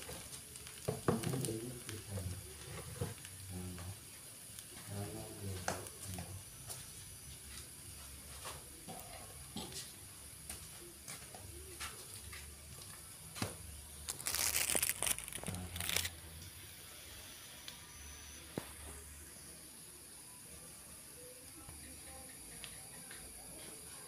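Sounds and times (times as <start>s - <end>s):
rice sizzling in a wok: 0.0s - 24.0s.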